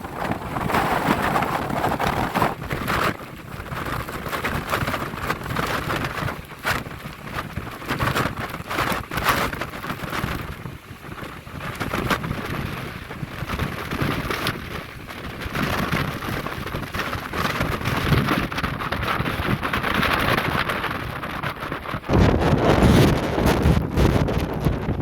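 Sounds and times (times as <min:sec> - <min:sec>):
rough sea rushing: 0:00.0 - 0:25.0
wind buffeting microphone: 0:00.0 - 0:25.0.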